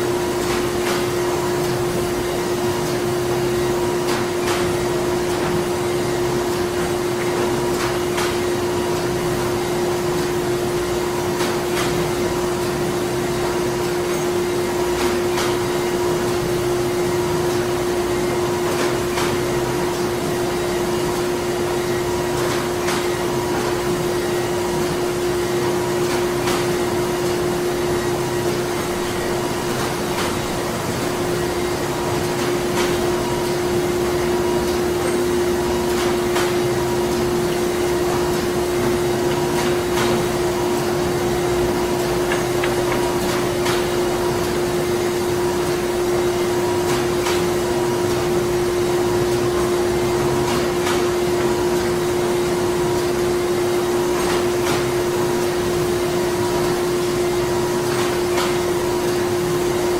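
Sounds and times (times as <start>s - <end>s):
machinery humming: 0.0s - 59.9s.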